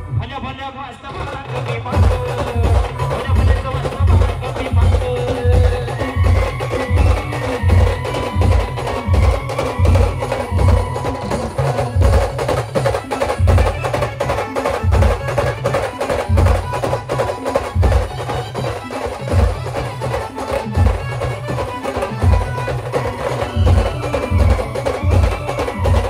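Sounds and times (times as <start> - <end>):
fast busy percussion: 0.0 - 26.0
heavy bass drum beats: 1.1 - 26.0.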